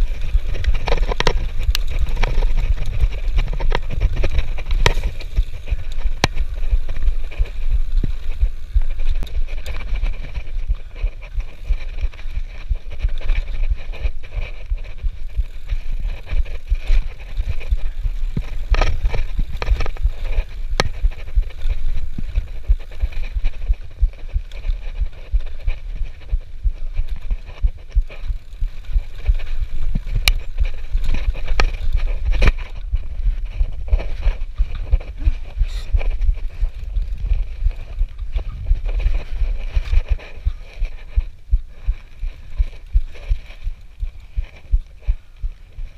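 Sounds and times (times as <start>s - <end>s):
bike clicking and rattling: 0.0s - 45.9s
wind rumble on microphone: 0.0s - 45.9s.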